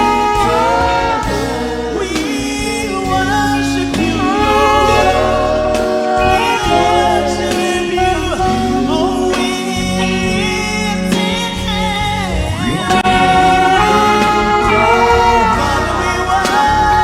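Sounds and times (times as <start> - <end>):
steady bass: 0.0 - 17.0
voices singing worship music: 0.0 - 17.0.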